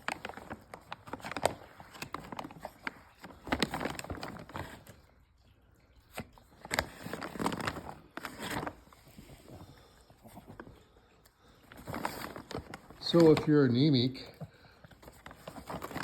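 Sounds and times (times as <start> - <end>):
dogs crunching treats: 0.0 - 16.0.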